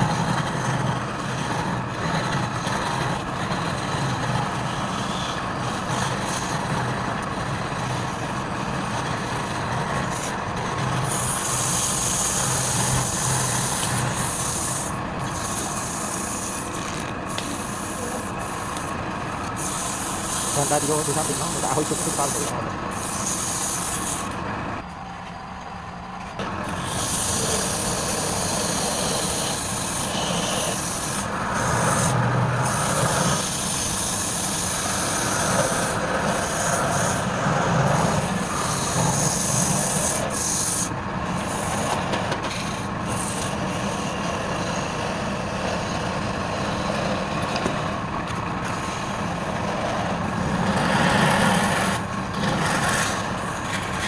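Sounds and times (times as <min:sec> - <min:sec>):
tool scraping spinning wood: 0:00.0 - 0:24.5, 0:26.4 - 0:54.0
wood lathe running: 0:00.0 - 0:25.0, 0:26.4 - 0:54.0.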